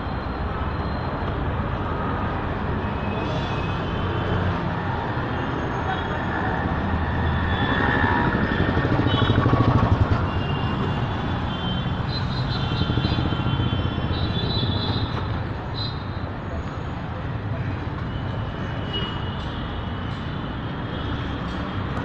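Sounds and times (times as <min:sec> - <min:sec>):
vehicle engines and road noise: 0:00.0 - 0:22.0.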